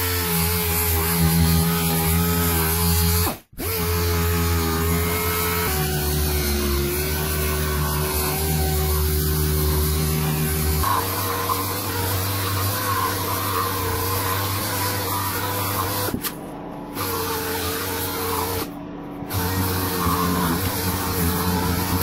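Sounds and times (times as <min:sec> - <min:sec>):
orbital sander humming: 0:00.0 - 0:16.2, 0:17.0 - 0:22.0.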